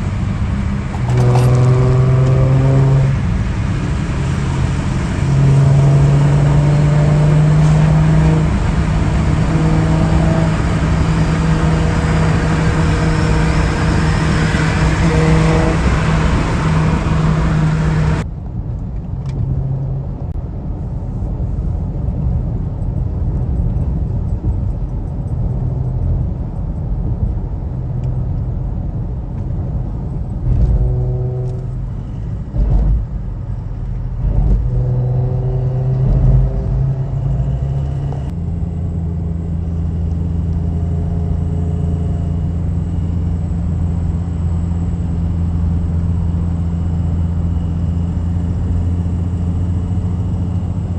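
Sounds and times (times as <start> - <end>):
car engine drone: 0.0 - 50.9
road and wind noise: 0.0 - 50.9.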